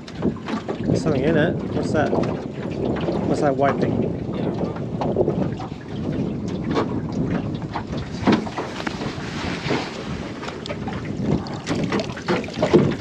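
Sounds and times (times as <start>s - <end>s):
water sloshing around boat: 0.0s - 13.0s
water splashes: 0.0s - 13.0s
wind buffeting microphone: 0.0s - 13.0s.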